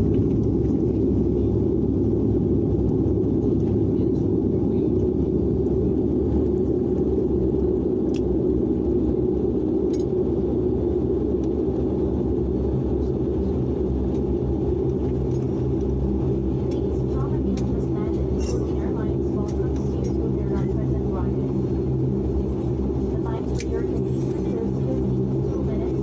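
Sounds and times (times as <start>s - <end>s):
airliner engine drone and wheel noise: 0.0s - 26.0s.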